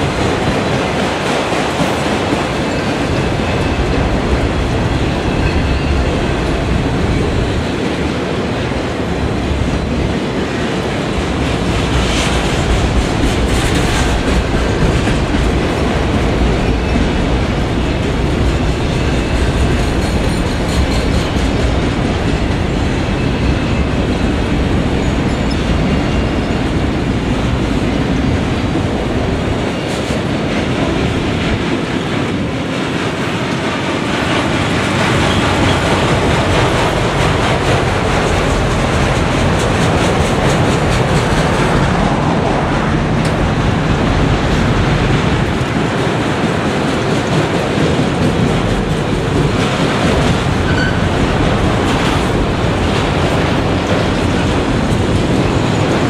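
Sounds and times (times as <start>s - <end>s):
freight cars rolling on rails: 0.0s - 56.0s.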